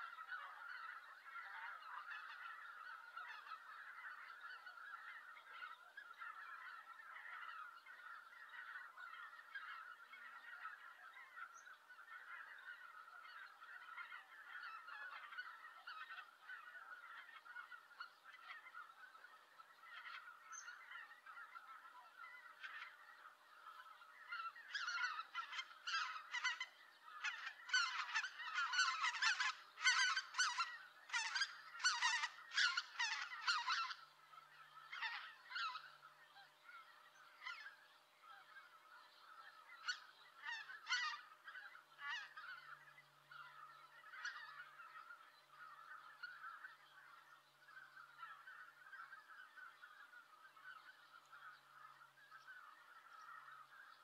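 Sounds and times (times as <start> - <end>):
geese honking: 0.0 - 36.1, 38.4 - 54.0
distant geese chorus: 0.0 - 54.0.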